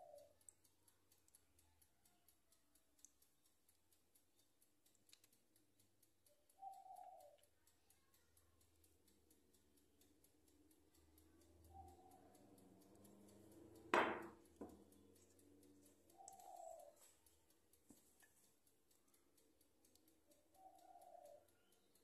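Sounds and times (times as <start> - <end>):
faint fast ticking: 0.0 - 22.0.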